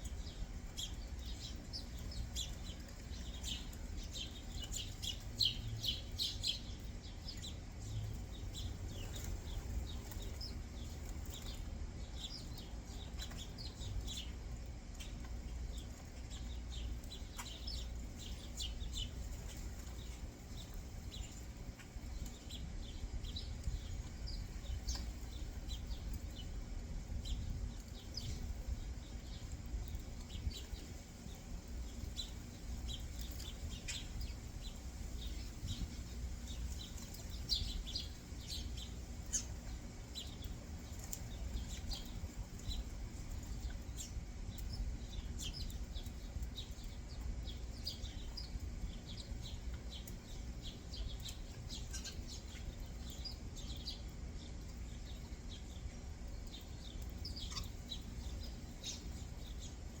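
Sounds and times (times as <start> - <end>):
low steady rumble: 0.0 - 60.0
songbirds chirping: 0.0 - 60.0.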